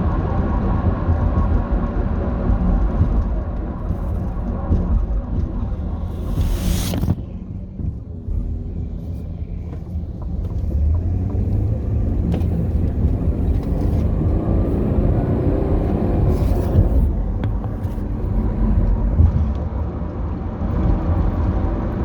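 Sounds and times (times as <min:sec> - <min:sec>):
van engine low rumble: 0:00.0 - 0:22.0.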